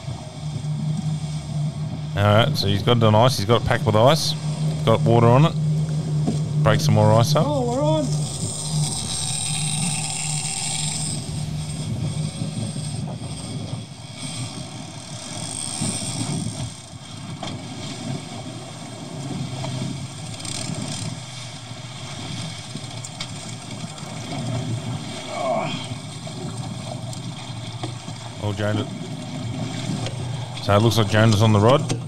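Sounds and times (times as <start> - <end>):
thin high whine: 0.0 - 18.5, 20.3 - 32.0
outboard motors humming: 0.0 - 32.0
rushing water and wash: 0.0 - 32.0.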